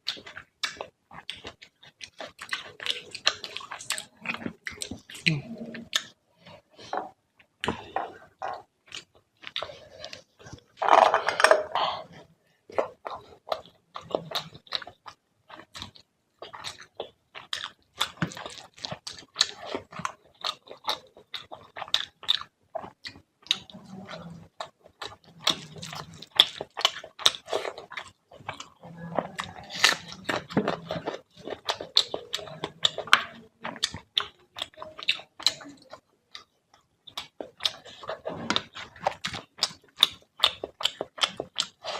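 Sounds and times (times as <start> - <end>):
close chewing with wet smacks: 0.0 - 10.8, 12.0 - 41.9.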